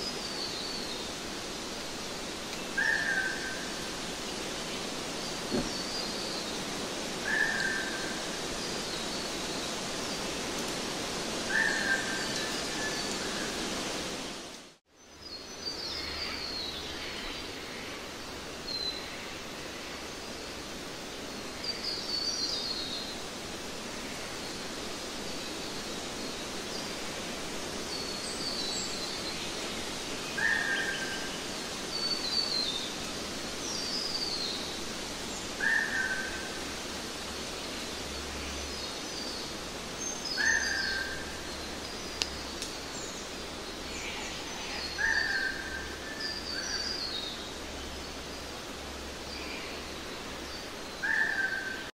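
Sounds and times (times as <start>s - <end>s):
steady background hiss: 0.0s - 51.9s.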